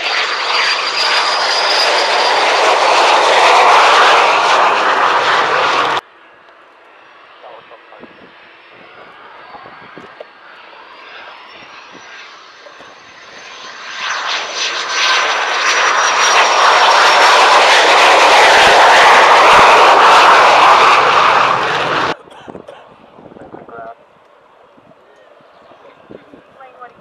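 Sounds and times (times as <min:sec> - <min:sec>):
loud jet rush: 0:00.0 - 0:06.0, 0:07.4 - 0:23.8
jet engine whine: 0:00.0 - 0:27.0.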